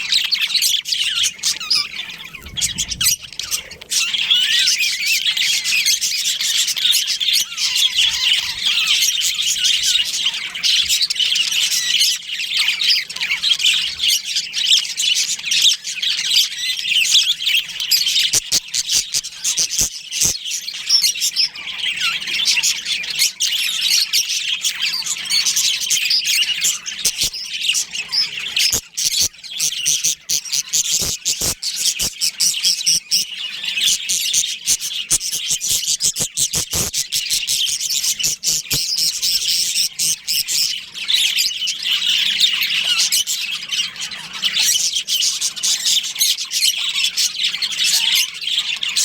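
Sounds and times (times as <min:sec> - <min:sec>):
budgerigars chattering and chirping: 0:00.0 - 0:49.0.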